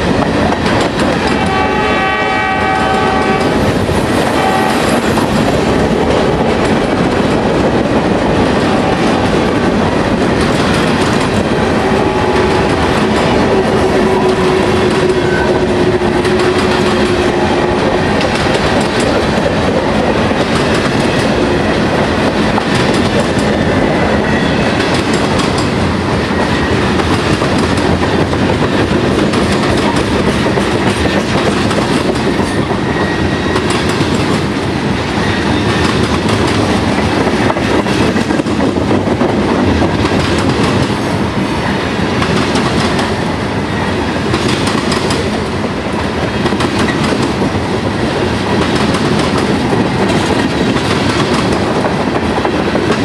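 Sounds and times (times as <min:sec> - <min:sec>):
clickety-clack over rail joints: 0:00.0 - 0:53.0
freight train wheels rumbling: 0:00.0 - 0:53.0.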